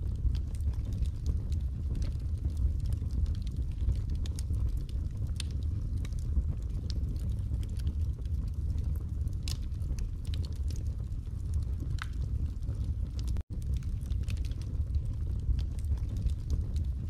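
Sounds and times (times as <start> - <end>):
low steady rumble: 0.0 - 17.0
wood fire crackling and popping: 0.0 - 17.0.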